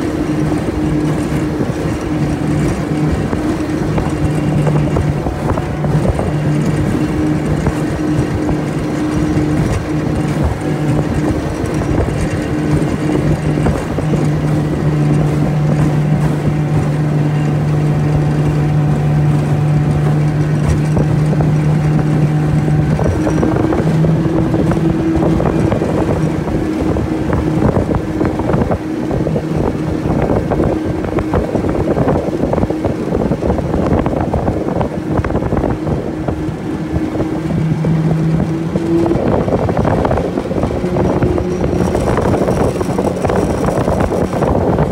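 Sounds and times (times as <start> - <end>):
outboard motor running: 0.0 - 44.9
wind noise on microphone: 0.0 - 44.9.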